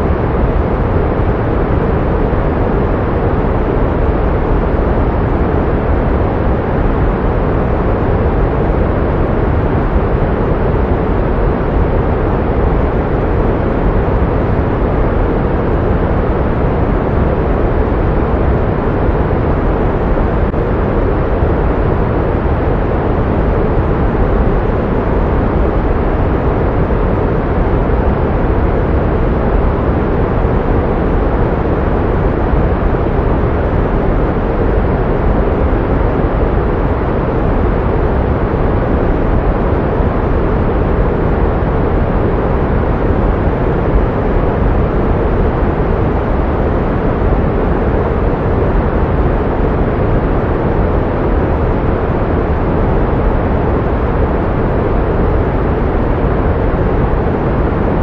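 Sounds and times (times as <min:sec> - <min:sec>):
deep pink noise hiss: 0:00.0 - 0:58.0.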